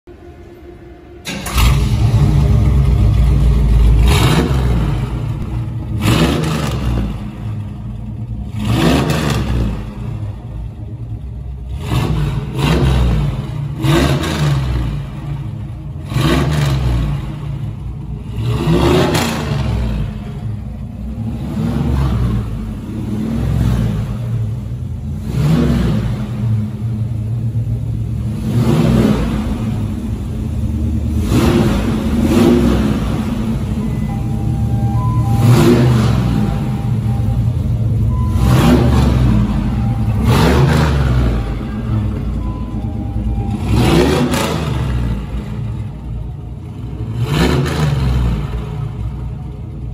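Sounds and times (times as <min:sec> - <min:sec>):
car engine revving: 0:00.1 - 0:49.9
rumbling engine idle: 0:00.1 - 0:49.9.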